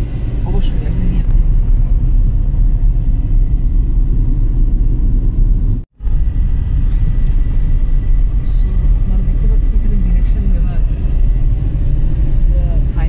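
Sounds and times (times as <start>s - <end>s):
moving vehicle rumbling: 0.0s - 13.0s.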